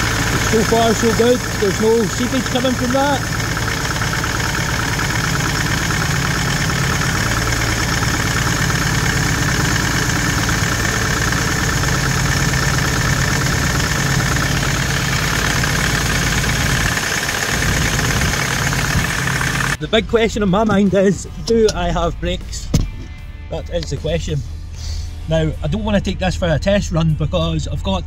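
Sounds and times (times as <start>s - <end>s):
diesel engine idling with clatter: 0.0s - 23.1s.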